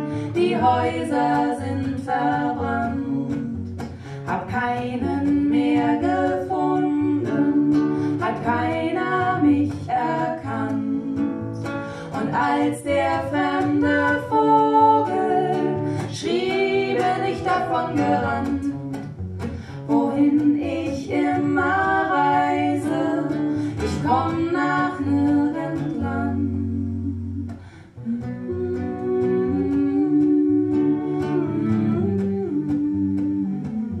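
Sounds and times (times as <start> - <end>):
plucked acoustic guitar: 0.0 - 34.0
woman singing: 0.0 - 34.0.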